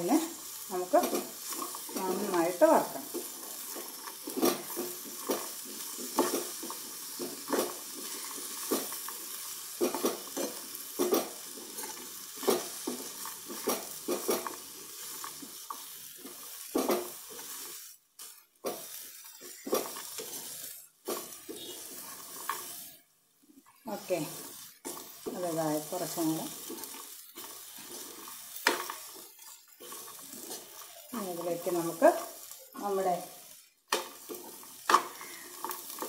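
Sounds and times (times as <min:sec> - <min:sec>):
food sizzling in a pan: 0:00.0 - 0:36.0
spoon scraping a pan: 0:00.4 - 0:23.0, 0:23.8 - 0:36.0.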